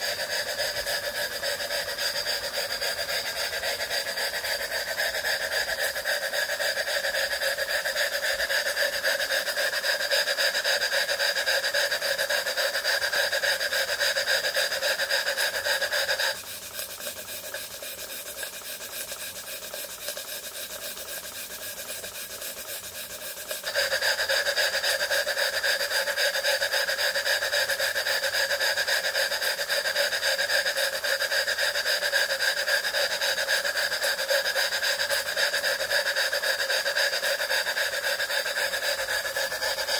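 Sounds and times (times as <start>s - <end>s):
steam engine chuffing: 0.0s - 39.9s
steam hissing: 0.0s - 39.9s.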